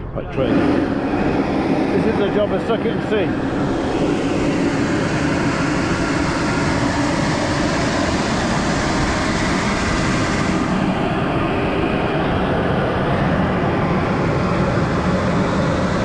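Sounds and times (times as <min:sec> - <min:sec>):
tractor running: 0:00.0 - 0:16.0.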